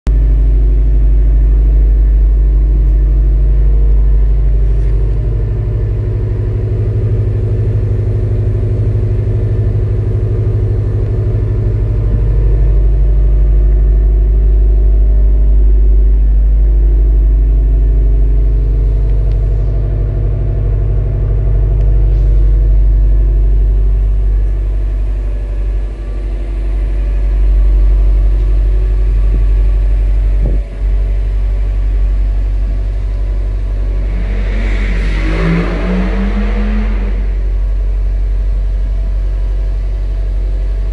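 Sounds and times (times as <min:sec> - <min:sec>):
car engine idling: 0:00.1 - 0:40.9.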